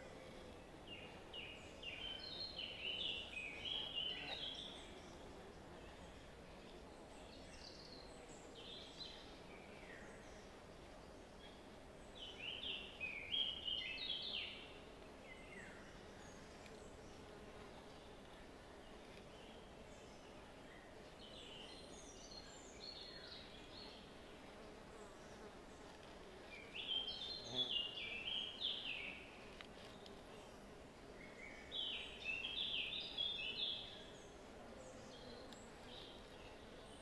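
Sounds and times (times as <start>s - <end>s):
faint background hiss: 0.0s - 37.0s
songbird singing: 0.0s - 37.0s.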